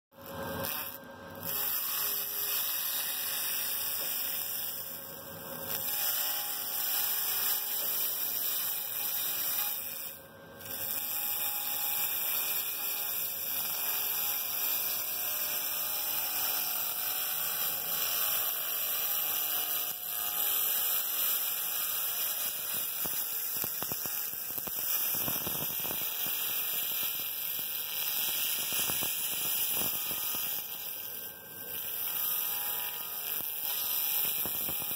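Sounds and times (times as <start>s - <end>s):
laser cleaner buzzing hiss: 0.2s - 34.9s.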